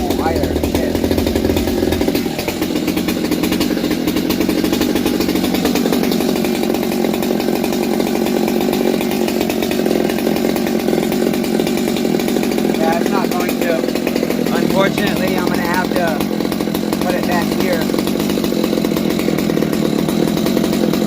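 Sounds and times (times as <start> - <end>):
chainsaw running steadily: 0.0 - 21.0.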